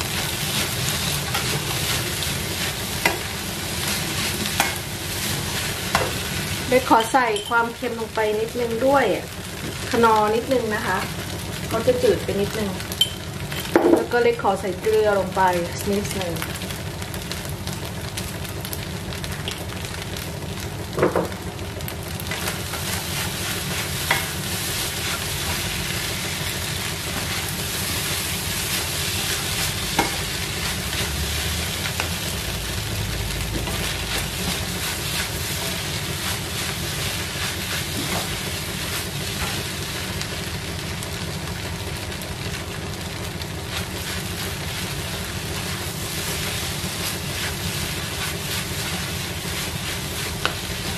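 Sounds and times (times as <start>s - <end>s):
rice sizzling in frying pan: 0.0s - 50.9s.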